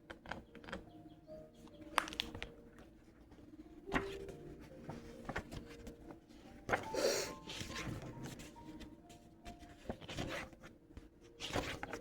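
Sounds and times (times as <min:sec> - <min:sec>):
faint background music: 0:00.0 - 0:12.0
cards or pages rustling: 0:01.7 - 0:12.0.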